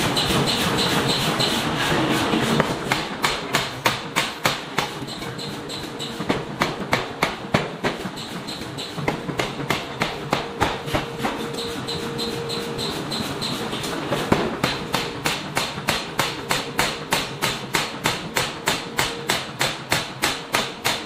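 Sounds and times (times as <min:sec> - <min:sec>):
power hammer striking steel: 0:00.0 - 0:01.7, 0:02.6 - 0:13.6, 0:14.3 - 0:21.0
steady machine hum: 0:00.0 - 0:21.0.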